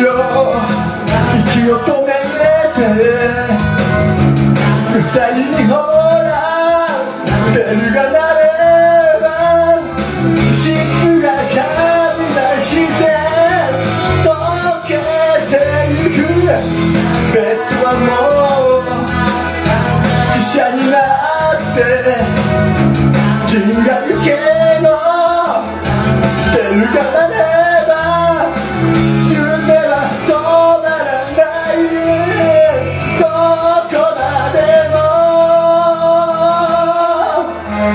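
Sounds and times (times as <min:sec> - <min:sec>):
man singing into microphone: 0:00.0 - 0:37.9
pop backing track: 0:00.0 - 0:37.9.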